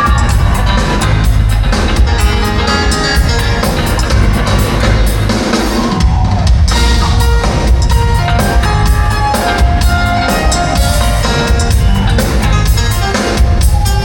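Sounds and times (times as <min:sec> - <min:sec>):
band music: 0:00.0 - 0:14.0
drum kit beat: 0:00.0 - 0:14.0.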